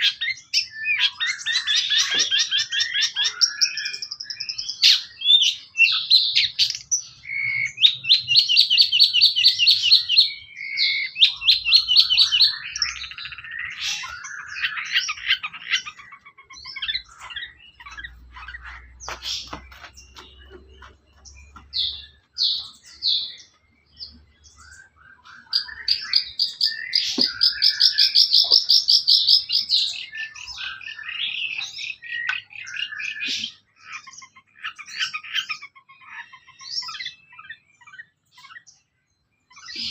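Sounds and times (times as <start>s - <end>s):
shrike singing chattering trills: 0.0s - 38.8s.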